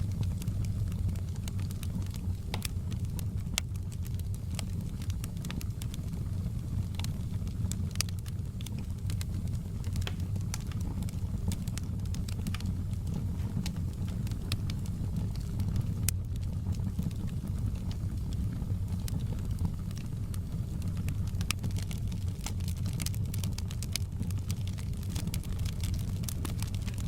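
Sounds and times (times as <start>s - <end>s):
fire pops and snaps: 0.0s - 27.0s
steady low rumble: 0.0s - 27.0s
wood fire crackling: 0.0s - 27.0s.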